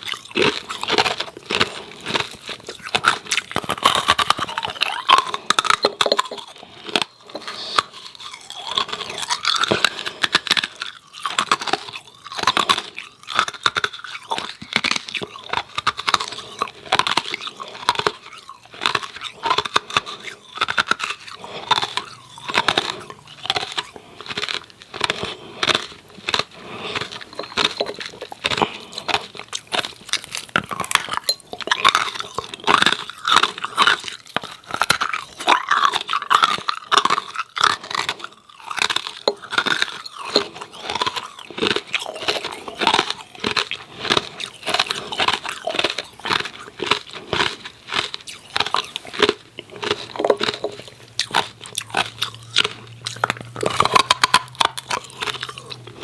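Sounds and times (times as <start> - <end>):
ice cubes crunched and chewed: 0.0 - 56.0.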